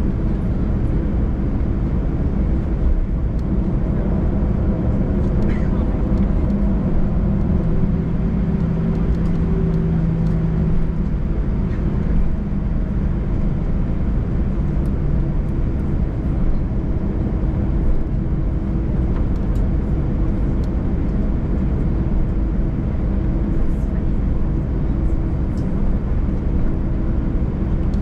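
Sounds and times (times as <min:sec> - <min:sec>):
jet engines rumbling in cabin: 0:00.0 - 0:28.0.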